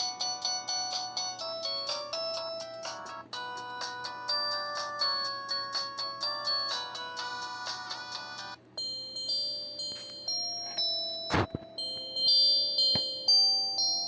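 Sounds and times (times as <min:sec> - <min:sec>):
polyphonic phone ringtone: 0:00.0 - 0:14.0.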